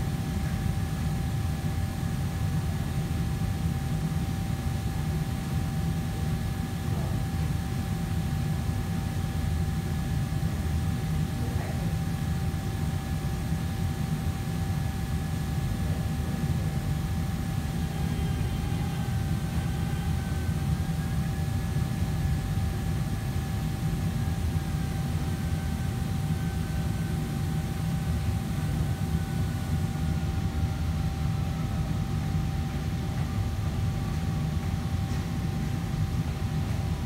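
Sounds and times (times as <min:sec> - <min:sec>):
machine rumble with high whine: 0:00.0 - 0:37.0.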